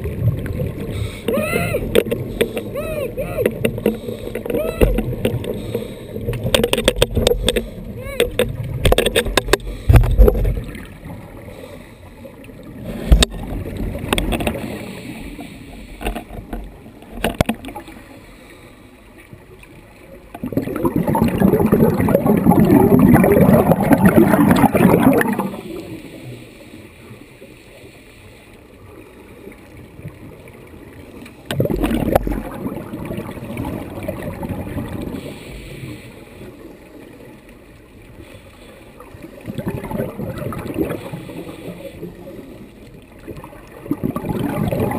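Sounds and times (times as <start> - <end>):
underwater exhaled bubbles: 0.0 - 18.2, 19.4 - 26.8, 28.8 - 44.9.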